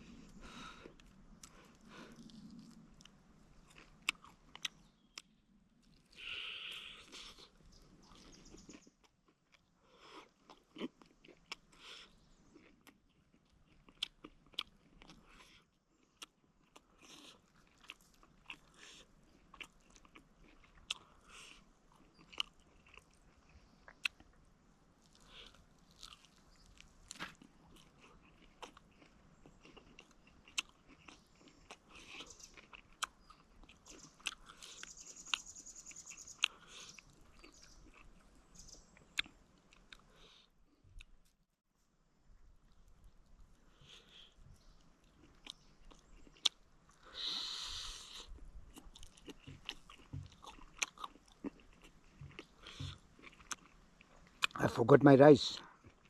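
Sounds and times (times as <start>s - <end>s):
person chewing and crunching: 0.0s - 24.4s, 25.0s - 41.3s, 42.7s - 54.7s, 55.5s - 56.0s.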